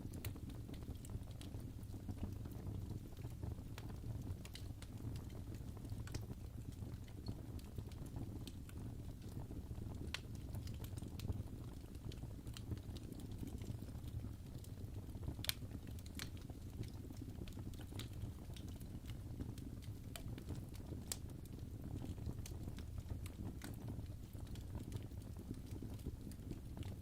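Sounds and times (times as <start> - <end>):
fire pops and snaps: 0.0 - 27.0
low rumble of flames: 0.0 - 27.0.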